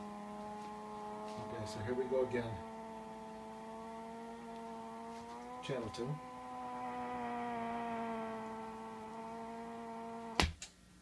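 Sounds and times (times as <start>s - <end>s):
amplifier buzzing hum: 0.0s - 11.0s.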